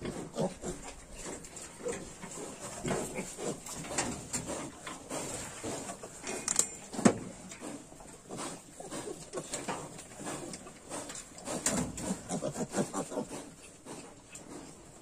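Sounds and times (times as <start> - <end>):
pigs grunting and snuffling: 0.0 - 15.0.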